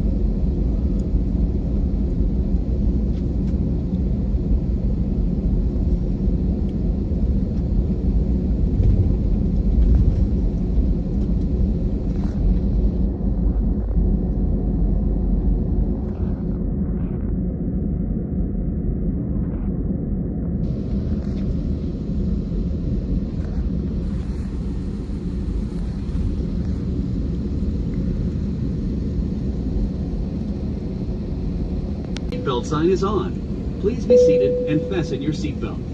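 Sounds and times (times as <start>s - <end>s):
jet engines and airflow rumble: 0.0s - 35.9s.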